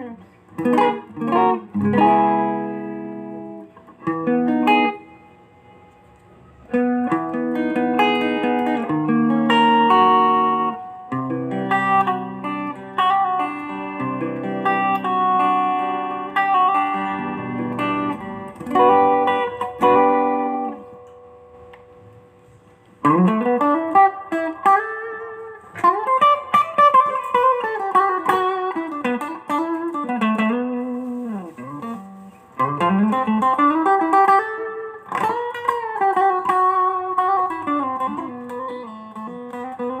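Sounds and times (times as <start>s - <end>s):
electric guitar playing: 0.0s - 40.0s.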